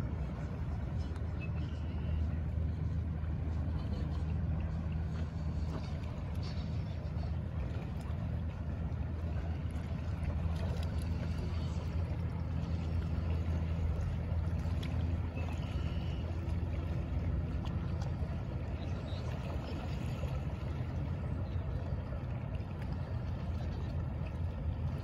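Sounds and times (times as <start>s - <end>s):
ferry engines droning: 0.0s - 25.0s
water noise: 0.0s - 25.0s
wind: 0.0s - 25.0s.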